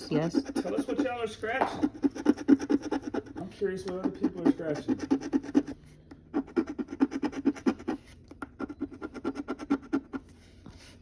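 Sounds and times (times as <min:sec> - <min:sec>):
lottery ticket being scratched: 0:00.0 - 0:10.2.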